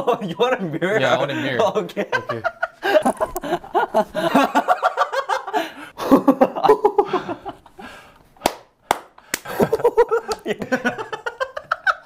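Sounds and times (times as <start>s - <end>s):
young men laughing: 0.0s - 8.1s, 9.3s - 12.0s.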